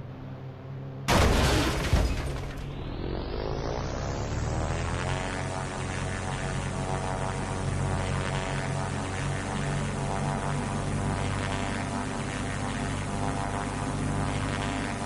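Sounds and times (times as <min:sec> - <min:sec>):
cartoon helicopter engine and rotor: 0:01.0 - 0:15.0.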